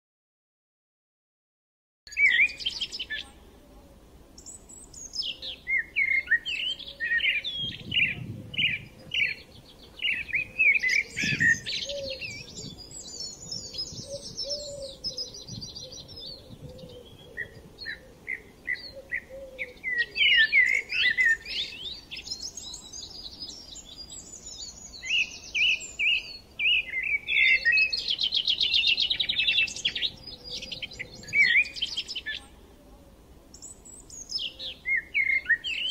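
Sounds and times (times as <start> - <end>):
songbirds chirping and trilling: 2.1 - 35.9.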